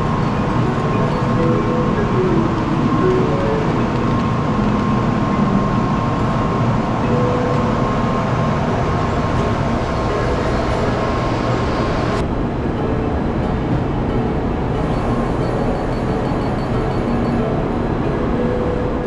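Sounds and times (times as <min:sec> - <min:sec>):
faint steady whine: 0:00.0 - 0:19.0
train rumbling: 0:00.0 - 0:19.0.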